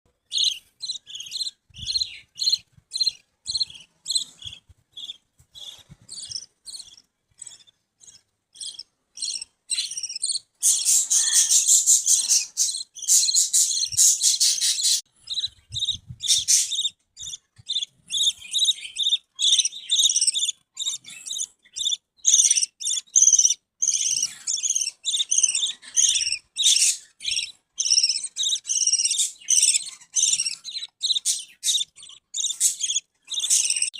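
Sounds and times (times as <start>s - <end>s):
budgerigars chirping: 0.2s - 33.9s.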